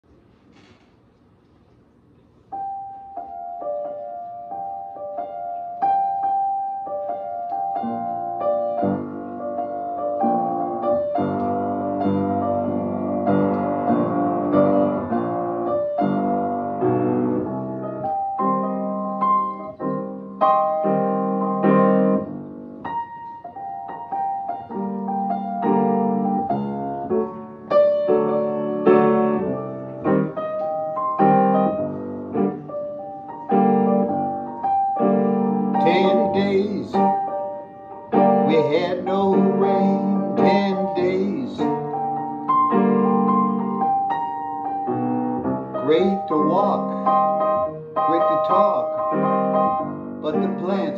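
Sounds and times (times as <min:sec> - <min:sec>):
grand piano playing chords and melody: 0:00.0 - 0:50.9.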